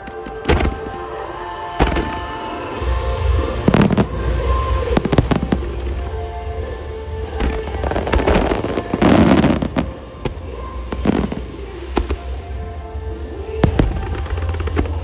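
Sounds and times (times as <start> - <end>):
fireworks bursting and crackling: 0.0 - 15.0
music over loudspeakers: 0.0 - 15.0.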